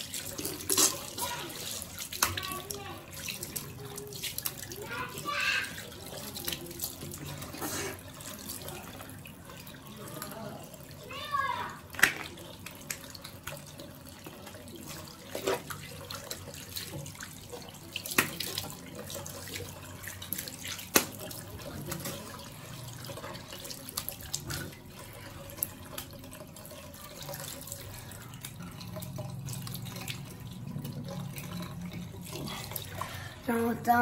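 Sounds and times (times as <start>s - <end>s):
splashing face washing: 0.0s - 34.0s
tap water running into sink: 0.0s - 34.0s.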